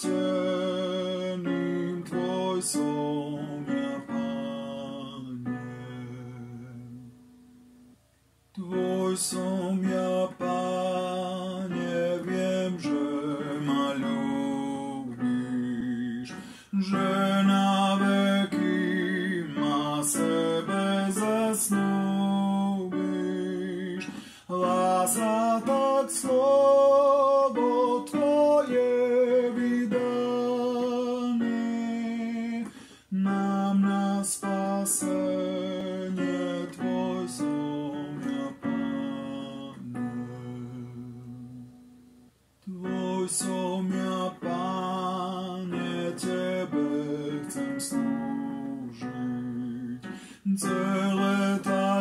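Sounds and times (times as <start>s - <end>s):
person singing a hymn: 0.0s - 7.6s, 8.5s - 52.0s.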